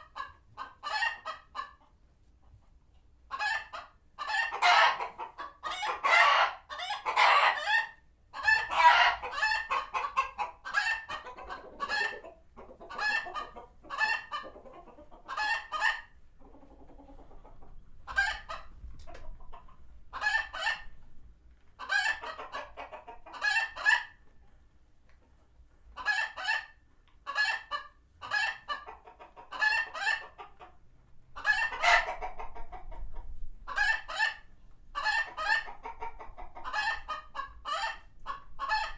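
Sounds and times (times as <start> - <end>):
chickens cackling and clucking: 0.0 - 38.9.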